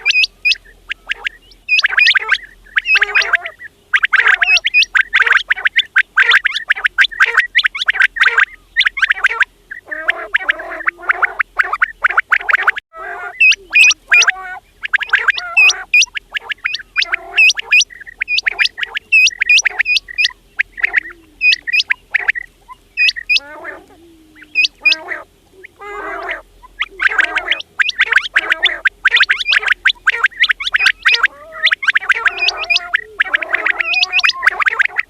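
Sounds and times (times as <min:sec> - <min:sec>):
quails calling: 0:00.0 - 0:35.0.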